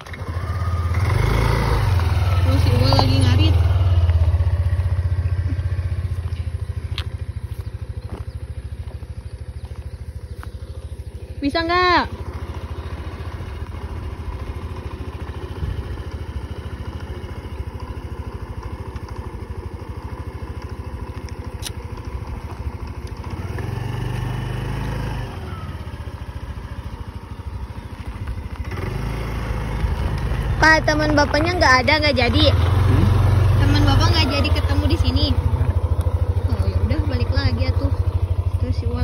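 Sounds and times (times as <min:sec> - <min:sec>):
scooter engine idling and revving: 0:00.0 - 0:39.0.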